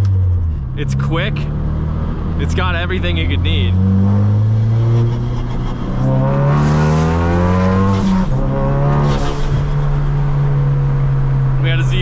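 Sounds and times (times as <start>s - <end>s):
car engine accelerating hard: 0.4s - 12.0s.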